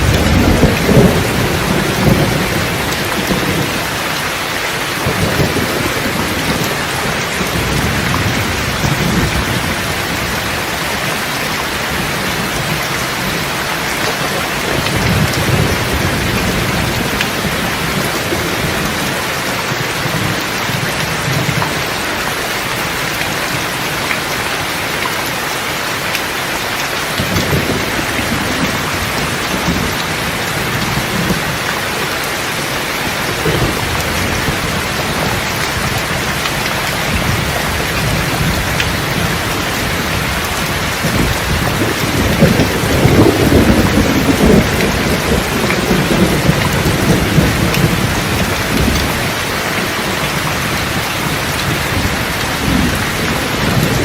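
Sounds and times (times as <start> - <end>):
thunder rumbling: 0.0 - 22.0, 27.0 - 54.0
steady rain: 0.0 - 54.0.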